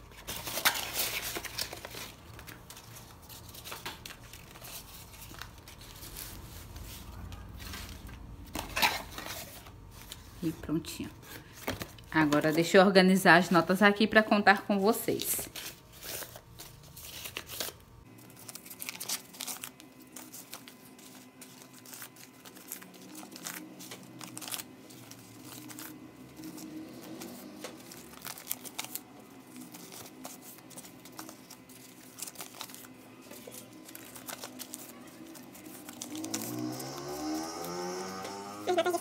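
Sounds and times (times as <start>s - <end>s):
paper banknotes crinkling: 0.0s - 13.0s, 14.7s - 39.0s.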